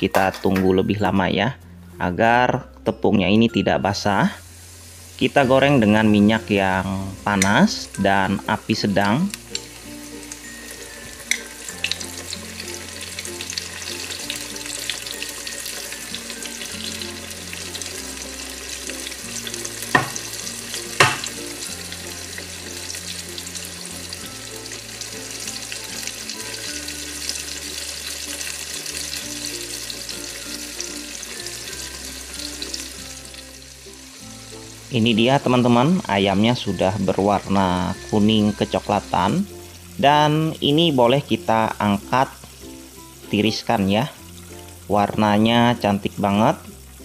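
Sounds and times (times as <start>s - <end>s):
chicken deep-frying in oil: 4.0s - 47.0s.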